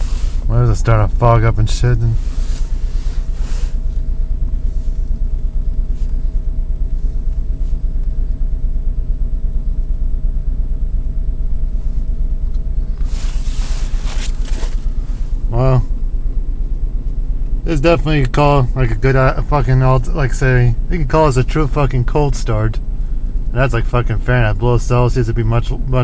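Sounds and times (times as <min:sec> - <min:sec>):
car engine idling: 0:00.0 - 0:26.0
faint steady whine: 0:00.0 - 0:26.0.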